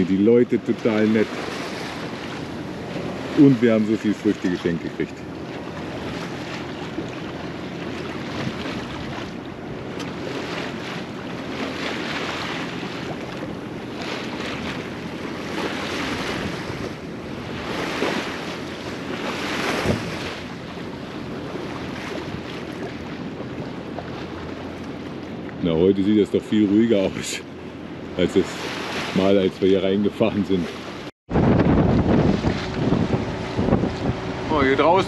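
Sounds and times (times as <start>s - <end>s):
wind buffeting microphone: 0.0s - 25.6s, 31.0s - 35.0s
water rushing along hull: 0.0s - 35.0s.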